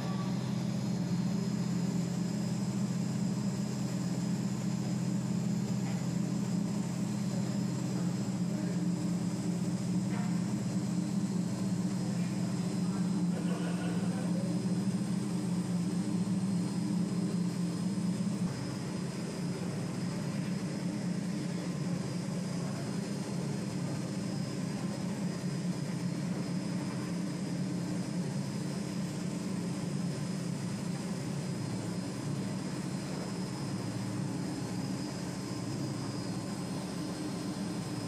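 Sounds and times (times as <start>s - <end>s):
centrifuge motor humming: 0.0s - 38.0s
faint high whine: 0.0s - 38.0s.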